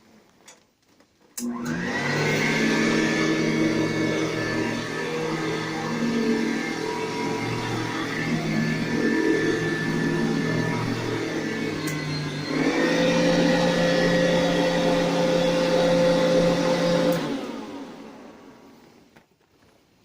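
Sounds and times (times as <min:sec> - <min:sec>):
vacuum cleaner humming: 0:01.4 - 0:19.1.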